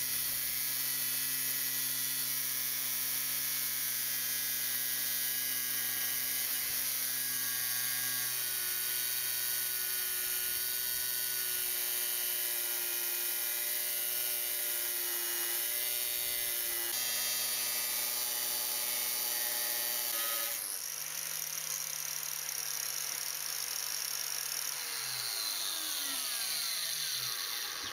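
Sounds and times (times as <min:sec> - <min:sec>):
angle grinder cutting steel: 0:00.0 - 0:27.9.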